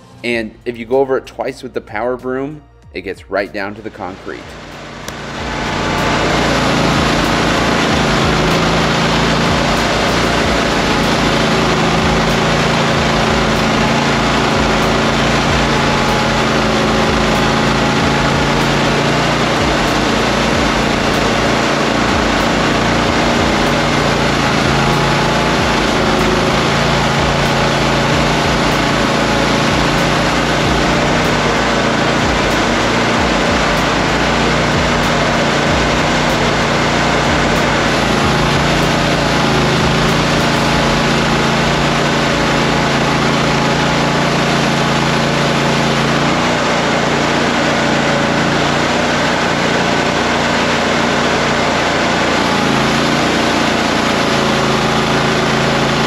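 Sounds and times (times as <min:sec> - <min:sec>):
engine running: 0:00.0 - 0:00.8, 0:02.9 - 0:56.0
power broom sweeping icy snow: 0:04.1 - 0:56.0.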